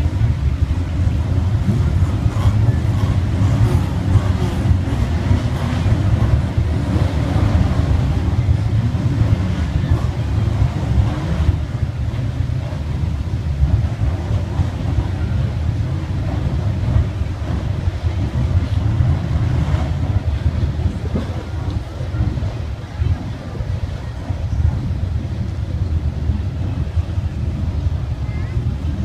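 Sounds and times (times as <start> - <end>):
stock car engines droning: 0.0 - 29.0
wind buffeting microphone: 0.0 - 29.0.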